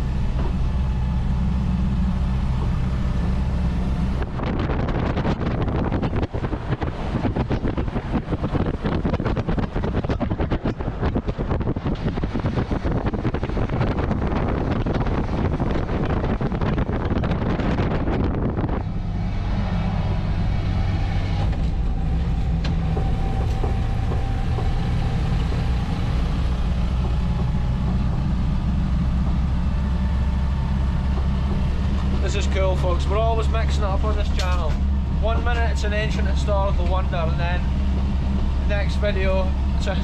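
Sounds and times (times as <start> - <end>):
car engine drone: 0.0 - 40.0
road noise: 0.0 - 40.0
wind buffeting microphone: 0.0 - 40.0.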